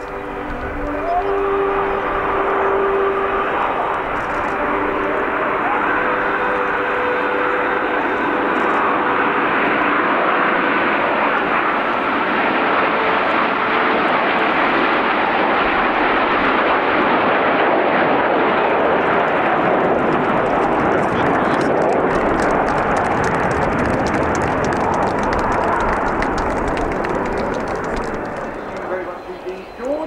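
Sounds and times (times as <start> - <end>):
faint jet whine: 0.0 - 30.0
jet engine roar: 0.0 - 30.0.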